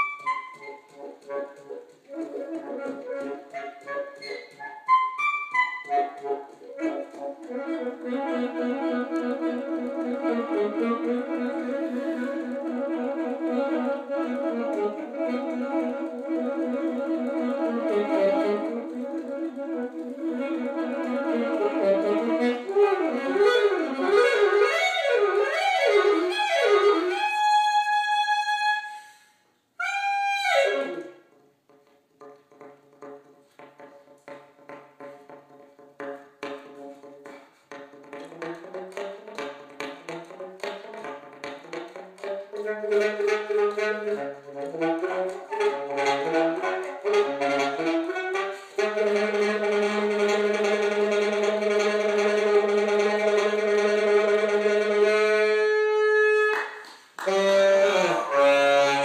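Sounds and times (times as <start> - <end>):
solo alto saxophone: 0.0 - 59.0.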